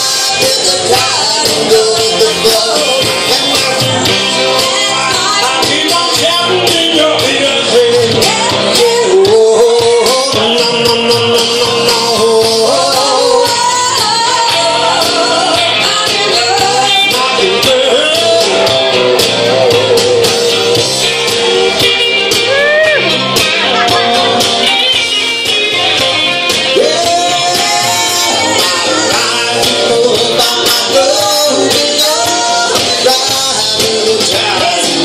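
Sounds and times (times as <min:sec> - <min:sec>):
person singing into microphone: 0:00.0 - 0:35.0
rock backing track: 0:00.0 - 0:35.0.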